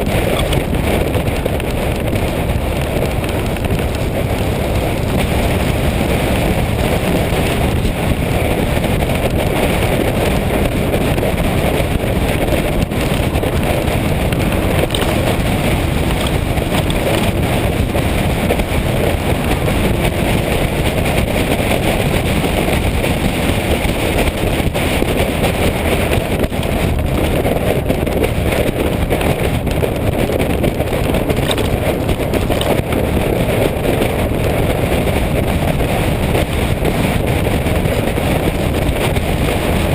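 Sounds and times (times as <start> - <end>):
motorcycle engine: 0.0 - 39.9
road noise: 0.0 - 39.9
wind on microphone: 0.0 - 39.9.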